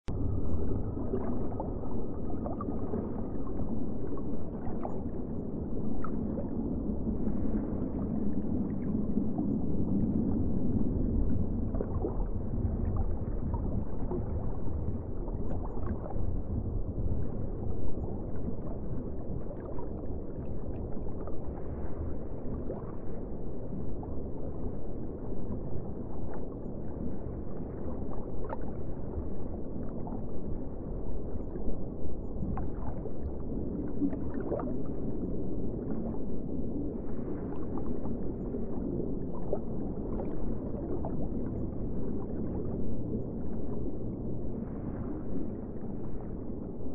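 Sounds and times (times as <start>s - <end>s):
faint bubbling and gurgles: 0.0s - 46.9s
muffled underwater rumble: 0.0s - 46.9s.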